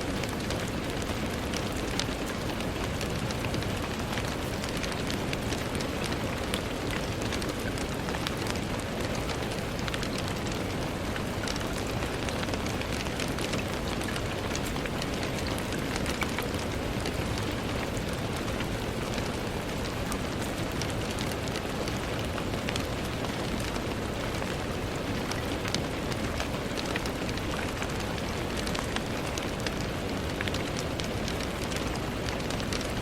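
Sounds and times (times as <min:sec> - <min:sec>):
rain against a window pane: 0:00.0 - 0:33.0.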